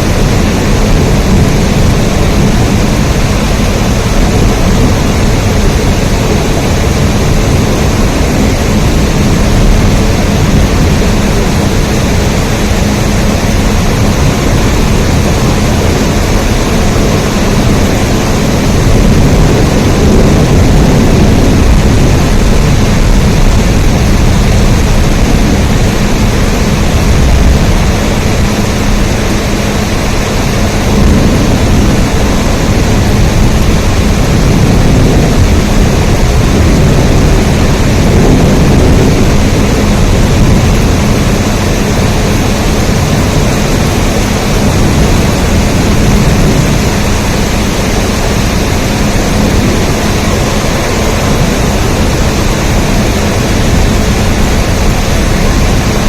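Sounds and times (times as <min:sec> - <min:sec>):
faint steady hum: 0:00.0 - 0:56.0
steady rain: 0:00.0 - 0:56.0.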